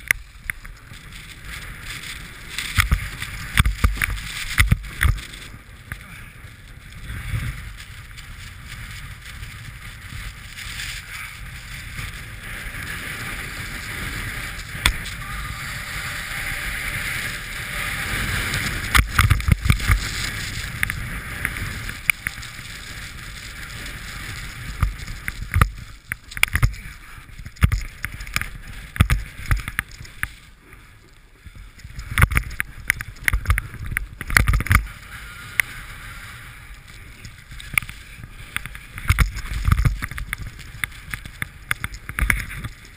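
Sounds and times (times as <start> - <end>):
snowboard scraping over snow: 0.0 - 42.9
wind rumble on microphone: 0.0 - 42.9.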